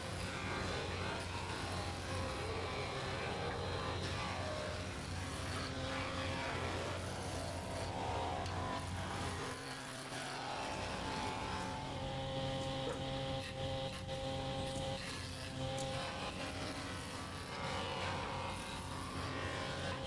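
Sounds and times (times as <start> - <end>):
wood jointer motor hum: 0.0 - 20.0.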